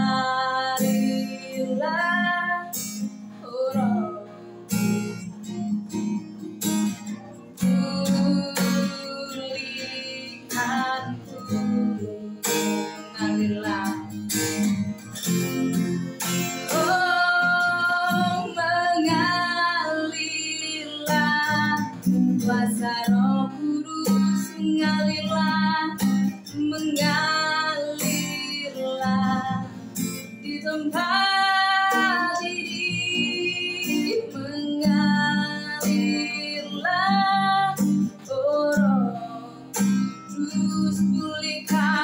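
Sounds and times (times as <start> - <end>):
acoustic guitar strumming: 0.0 - 42.0
woman singing: 0.0 - 42.0.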